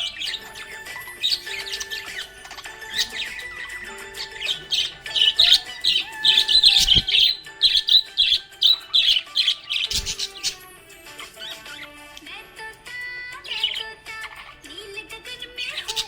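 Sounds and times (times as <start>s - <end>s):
budgerigars chirping: 0.0s - 12.2s, 13.3s - 14.7s, 15.3s - 16.0s.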